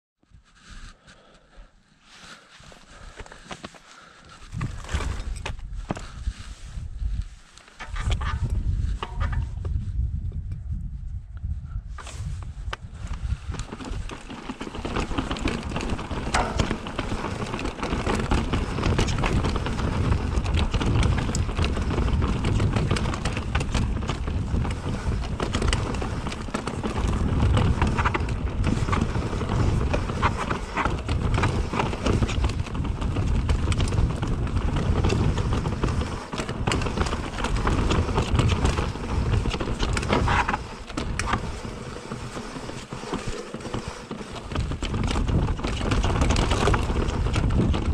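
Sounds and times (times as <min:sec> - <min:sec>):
bike rattling and clicking: 0:03.0 - 0:10.9, 0:11.9 - 0:47.9
bike tyres rumbling over rock: 0:04.0 - 0:06.8, 0:12.0 - 0:47.9.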